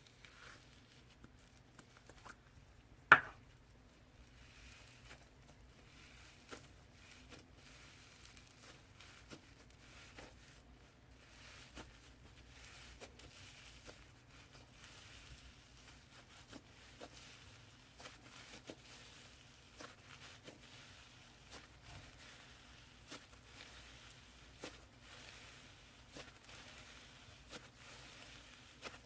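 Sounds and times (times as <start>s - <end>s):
slime crackling and popping: 4.4s - 29.0s.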